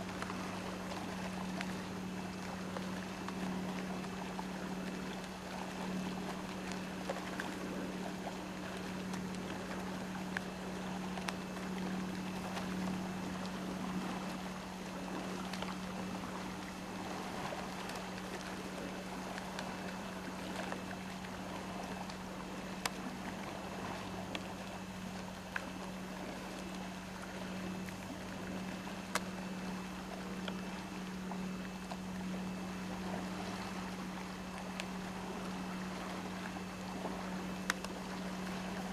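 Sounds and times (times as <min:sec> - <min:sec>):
low motor hum: 0:00.0 - 0:38.9
sea water wash: 0:00.0 - 0:38.9.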